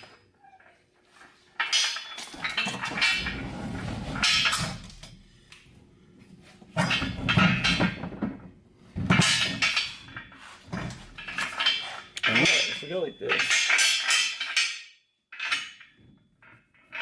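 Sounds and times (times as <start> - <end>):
metal parts scraping and clanking: 0.0 - 5.3, 6.7 - 8.3, 9.0 - 17.0.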